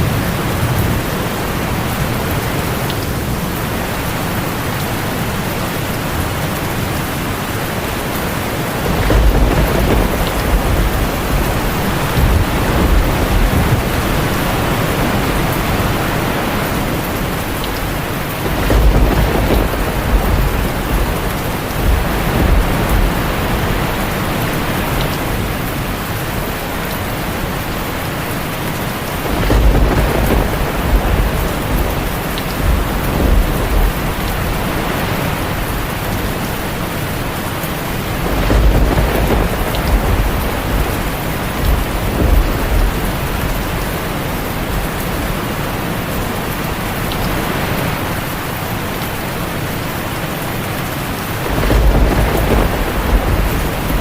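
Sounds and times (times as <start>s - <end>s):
thunder rumbling: 0.0s - 48.6s, 51.1s - 54.0s
heavy rain on a tin roof: 0.0s - 54.0s.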